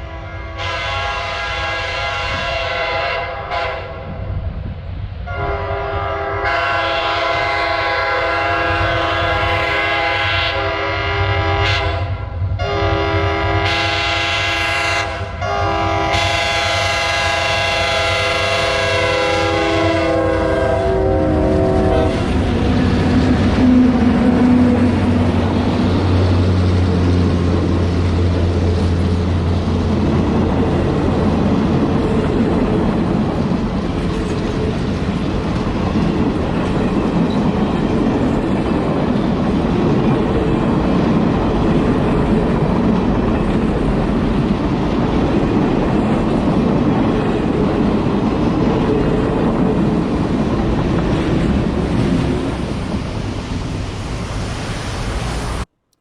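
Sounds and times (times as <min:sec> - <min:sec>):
diesel locomotive engine droning: 0:00.0 - 0:55.7
train wheels rumbling on rails: 0:00.0 - 0:55.7.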